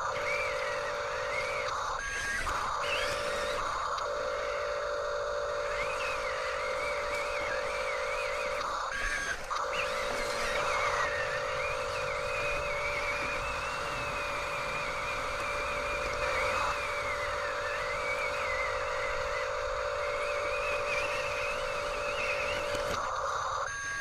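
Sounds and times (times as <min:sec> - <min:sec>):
toy vehicle electric motors whirring: 0:00.0 - 0:24.0.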